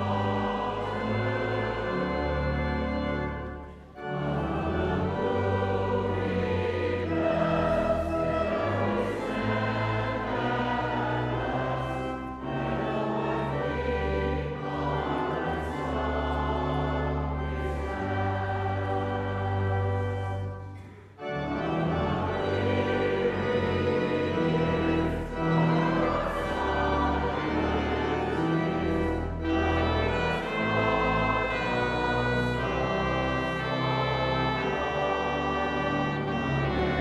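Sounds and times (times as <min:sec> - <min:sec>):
choir singing a hymn: 0:00.0 - 0:37.0
organ: 0:00.0 - 0:37.0.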